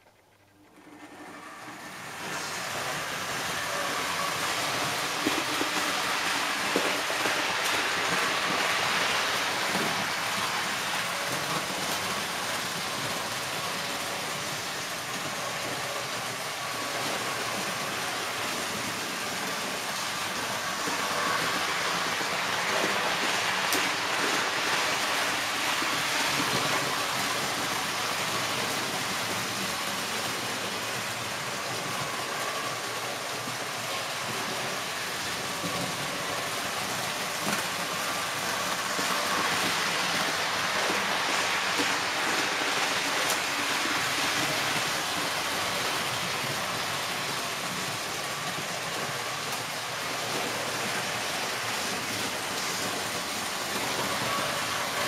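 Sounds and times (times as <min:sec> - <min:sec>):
faint motor whine: 0:00.0 - 0:55.0
model train wheels rattling on rails: 0:00.0 - 0:55.0.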